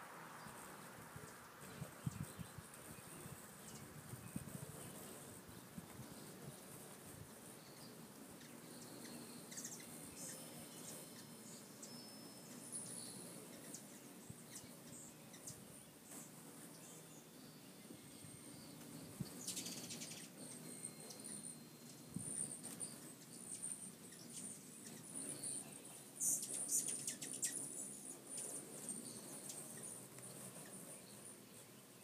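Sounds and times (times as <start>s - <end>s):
hummingbirds chirping: 0.0s - 32.0s.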